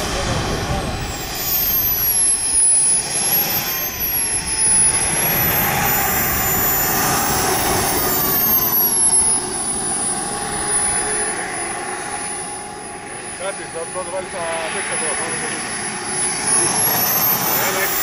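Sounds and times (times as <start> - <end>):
model jet turbine whine: 0.0 - 18.0.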